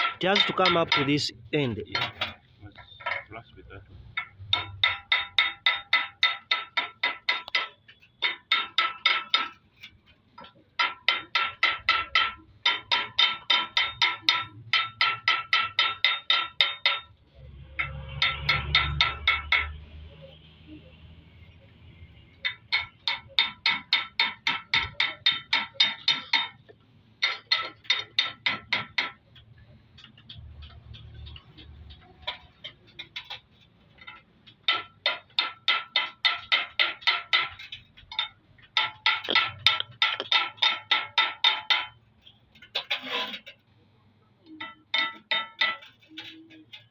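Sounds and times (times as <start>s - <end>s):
hammer tapping on metal: 0.0s - 3.3s, 4.2s - 9.6s, 10.4s - 17.2s, 17.8s - 19.8s, 22.2s - 43.6s, 44.4s - 46.9s.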